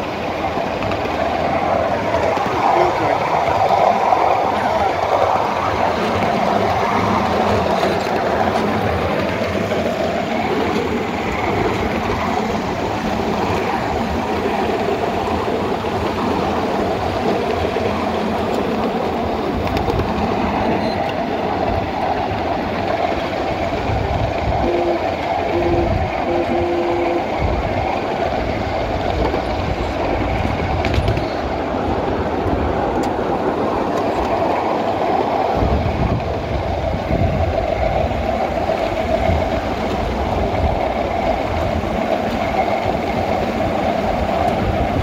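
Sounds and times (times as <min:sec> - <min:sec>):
small train wheels rumbling on rails: 0:00.0 - 0:45.0.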